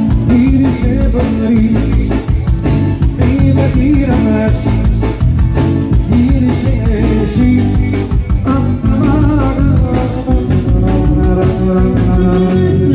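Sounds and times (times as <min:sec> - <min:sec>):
bass line: 0:00.0 - 0:12.9.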